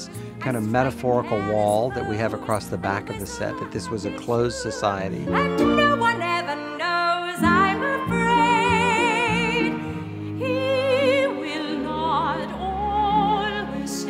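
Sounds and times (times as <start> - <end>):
sustained instrumental accompaniment: 0.0 - 14.0
woman singing with vibrato: 0.0 - 14.0.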